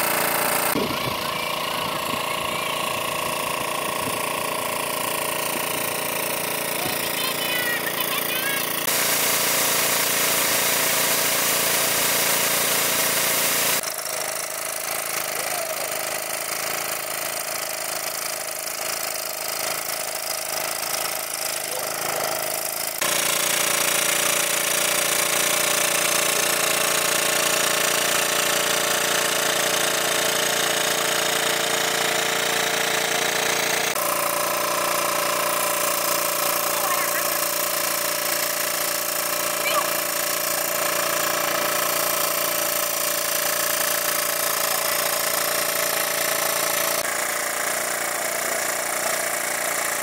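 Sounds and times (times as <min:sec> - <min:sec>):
water pump engine droning: 0:00.0 - 0:50.0.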